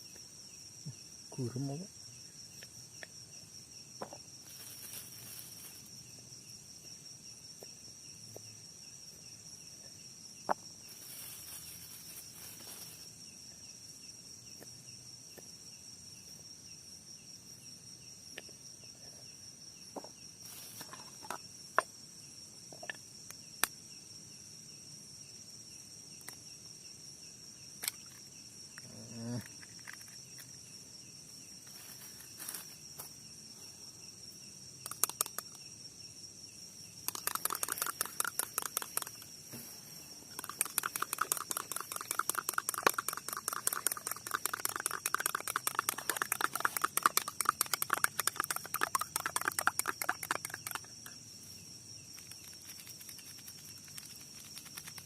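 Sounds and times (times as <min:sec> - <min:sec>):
night insects chirping: 0:00.0 - 0:55.0.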